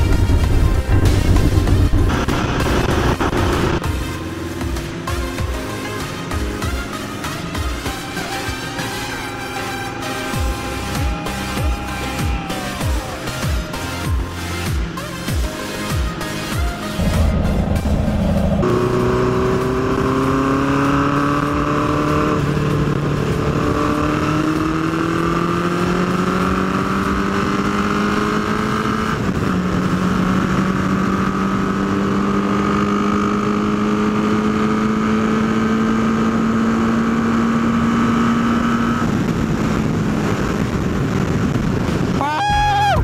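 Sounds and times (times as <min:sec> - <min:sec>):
motorcycle engine revving high: 0:00.0 - 0:15.9, 0:16.8 - 0:42.2.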